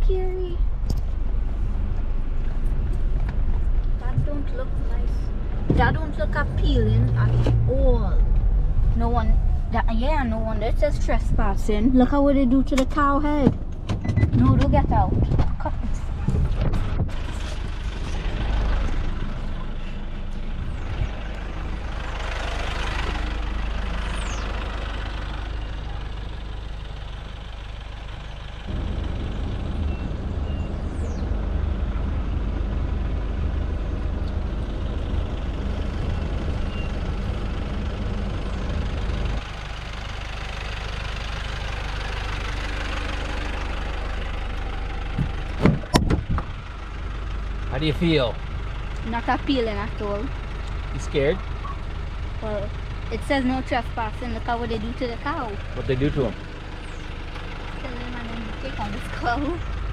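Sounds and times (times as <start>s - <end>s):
pickup truck engine idling: 0.0s - 59.9s.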